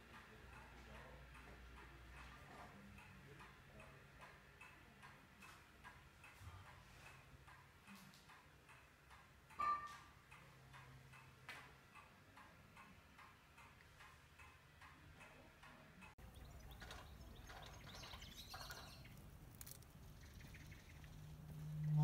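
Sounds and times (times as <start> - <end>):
clock ticking: 0.0 - 19.8.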